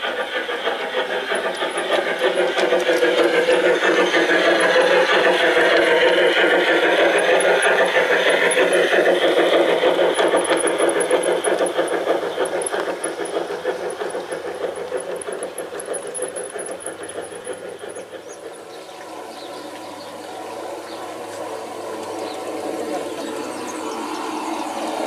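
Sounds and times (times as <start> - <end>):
model train wheels clattering: 0.0 - 25.0.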